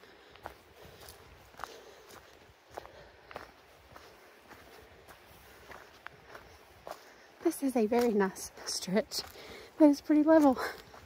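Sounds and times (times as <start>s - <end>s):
footsteps on dry leaves: 0.0s - 11.0s.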